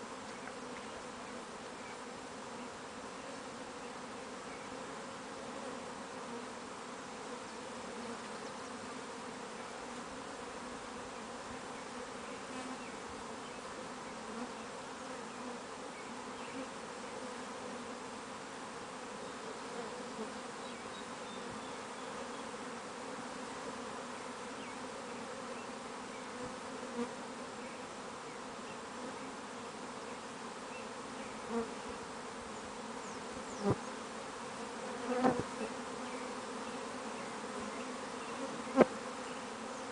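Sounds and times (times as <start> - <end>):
bee swarm buzzing: 0.0 - 39.9.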